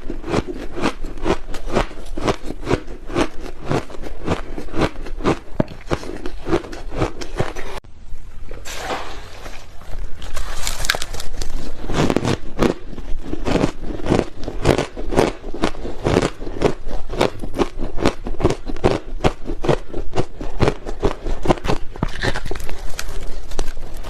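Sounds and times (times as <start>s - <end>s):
ice being chewed: 0.0s - 7.8s, 9.9s - 24.0s.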